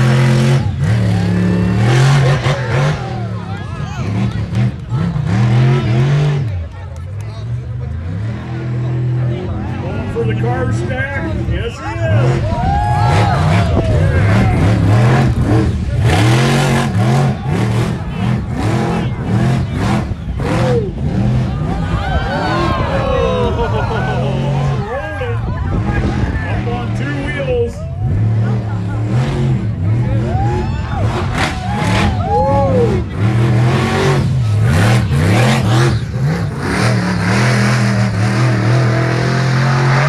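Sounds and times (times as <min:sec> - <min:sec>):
truck engine revving: 0:00.0 - 0:40.0.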